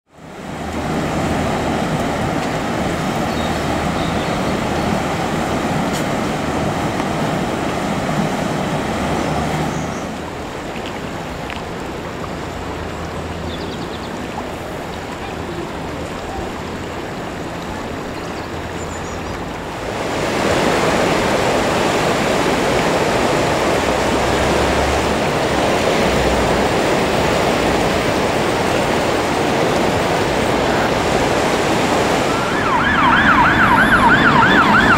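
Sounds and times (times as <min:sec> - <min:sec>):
flooded river rushing: 0:00.1 - 0:34.9.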